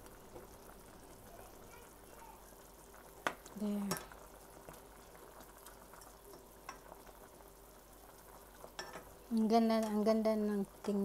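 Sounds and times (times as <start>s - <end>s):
stew simmering in a pot: 0.0s - 11.0s.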